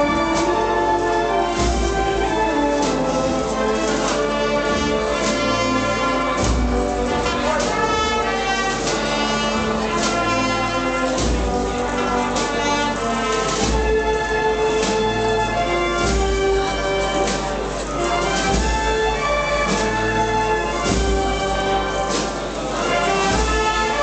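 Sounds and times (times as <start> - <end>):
brass chords: 0.0 - 24.0
drum strokes: 0.0 - 24.0.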